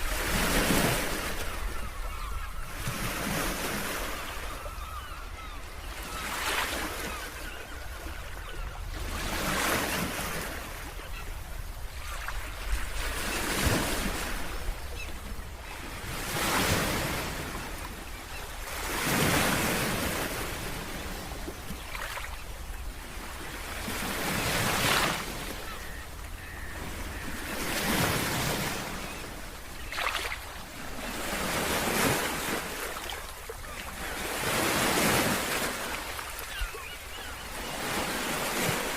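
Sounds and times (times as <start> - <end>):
ocean waves breaking on a beach: 0.0 - 38.9.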